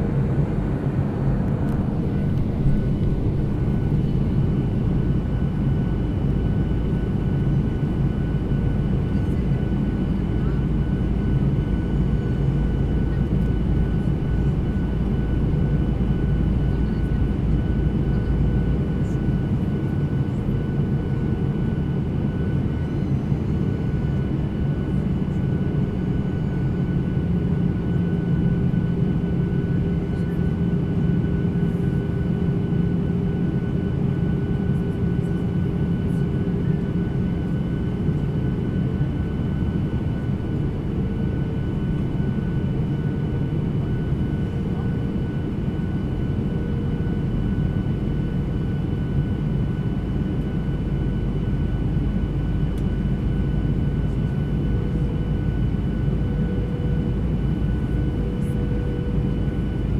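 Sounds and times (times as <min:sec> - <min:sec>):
airliner engine drone: 0:00.0 - 0:59.9.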